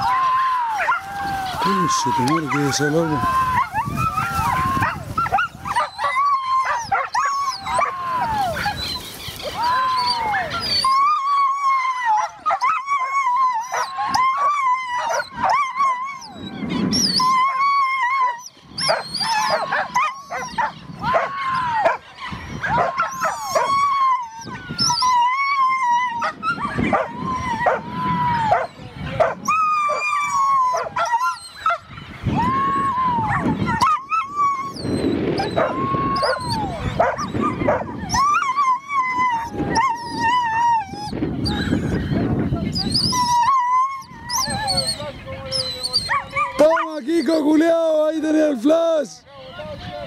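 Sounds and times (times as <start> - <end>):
dogs yelping and howling: 0.0 - 47.6.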